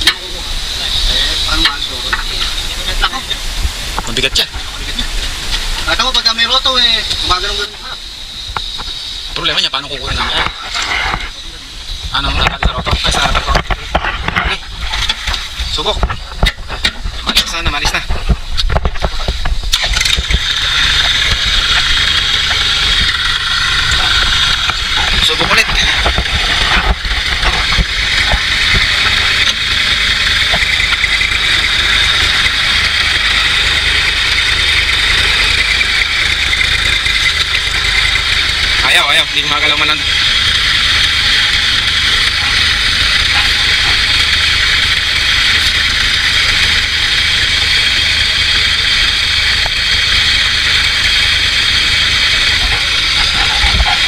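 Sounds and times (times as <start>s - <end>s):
tractor engine revving: 0.0s - 54.0s.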